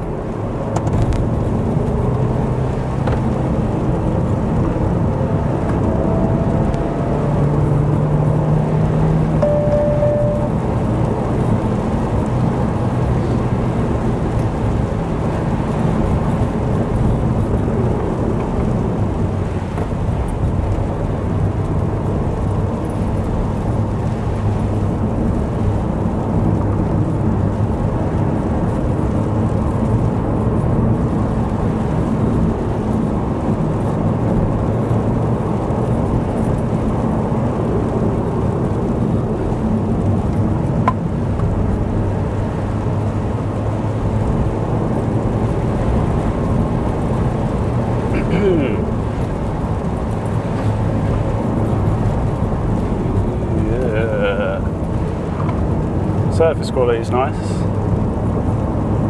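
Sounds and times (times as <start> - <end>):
car engine drone: 0.0 - 59.0
tyres on wet road: 0.0 - 59.0.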